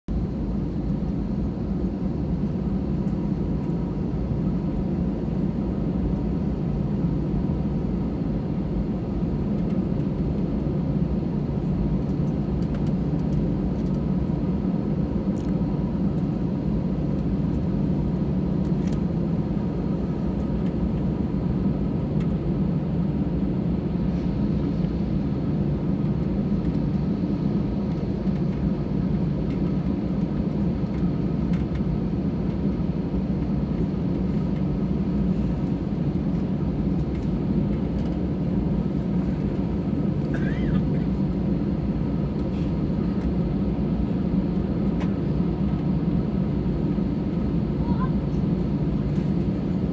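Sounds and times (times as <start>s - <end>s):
airliner cabin rumble: 0.1s - 49.9s
faint steady whine: 0.1s - 49.9s.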